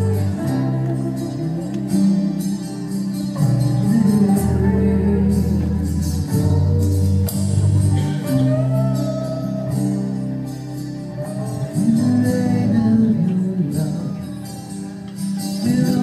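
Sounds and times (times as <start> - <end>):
person singing: 0.0 - 14.7, 15.5 - 16.0
live band playing: 0.0 - 16.0.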